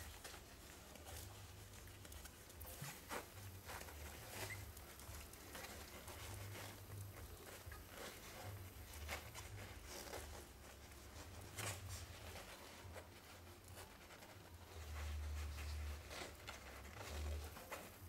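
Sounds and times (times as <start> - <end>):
puppies rustling and scratching: 0.0 - 18.0.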